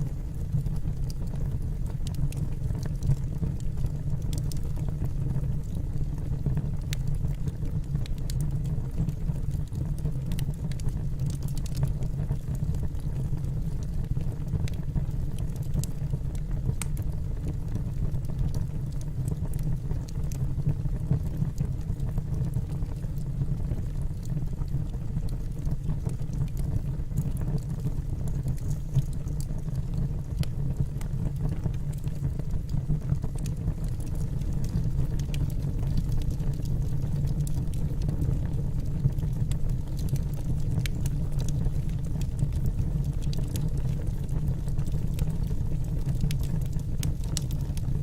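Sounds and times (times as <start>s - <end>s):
burning wood crackling and popping: 0.0s - 48.0s
low rumble of flames: 0.0s - 48.0s.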